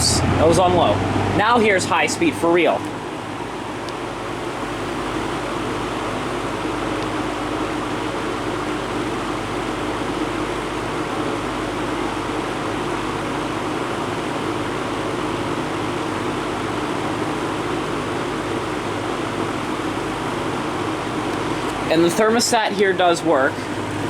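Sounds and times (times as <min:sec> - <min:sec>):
box fan rushing air: 0:00.0 - 0:24.0
fan motor hum: 0:00.0 - 0:24.0.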